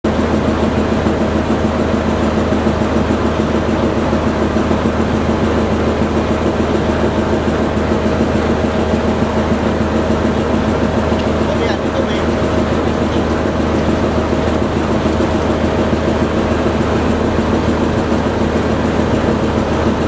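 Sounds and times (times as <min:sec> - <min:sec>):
diesel locomotive idling: 0:00.0 - 0:20.0
constant low hum: 0:00.1 - 0:20.0.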